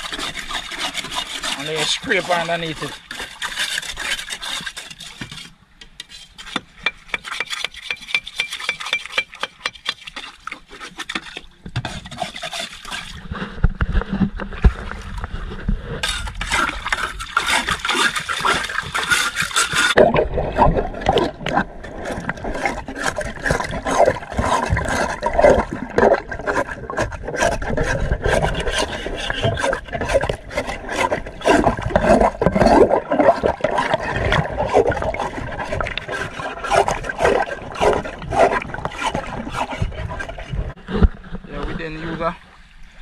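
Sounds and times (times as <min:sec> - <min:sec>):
water sloshing: 0:00.0 - 0:05.6, 0:06.3 - 0:43.0
muffled rasping scrubbing scrapes: 0:00.0 - 0:20.0, 0:21.1 - 0:42.4.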